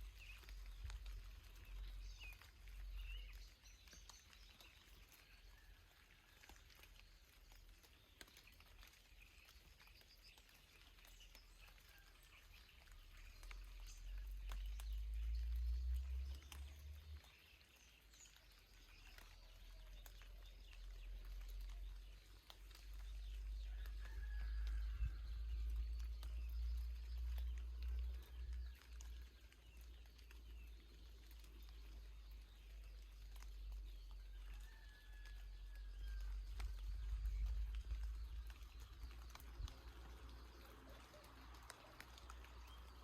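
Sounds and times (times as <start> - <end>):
light rain dripping: 0.0 - 43.0.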